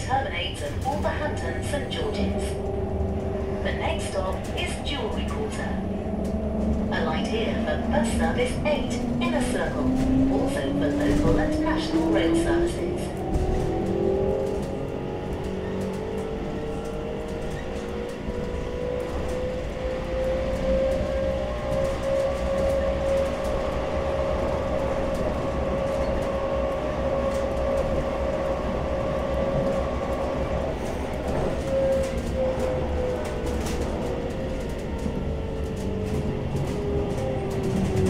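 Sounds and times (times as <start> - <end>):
tram motor whine: 0.0 - 38.0
wheels rumbling on rails: 0.0 - 38.0.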